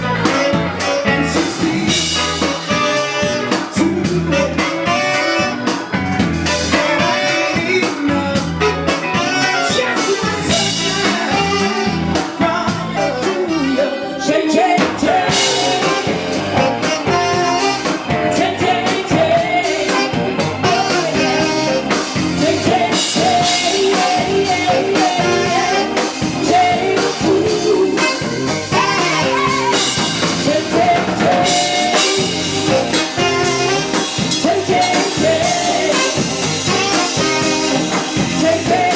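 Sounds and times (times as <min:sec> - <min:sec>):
live blues band playing: 0:00.0 - 0:38.9
person singing: 0:00.0 - 0:38.9.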